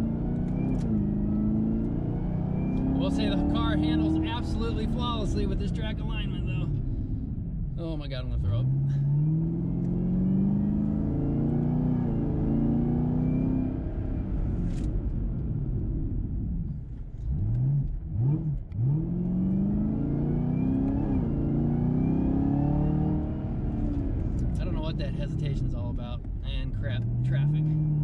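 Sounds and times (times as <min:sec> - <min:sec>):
car engine accelerating hard: 0:00.0 - 0:07.0, 0:07.8 - 0:16.0, 0:16.6 - 0:28.0.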